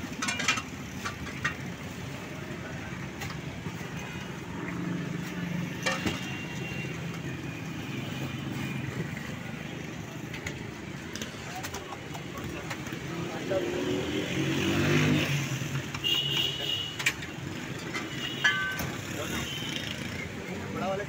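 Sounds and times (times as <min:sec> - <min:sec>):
busy street noise: 0:00.0 - 0:21.0.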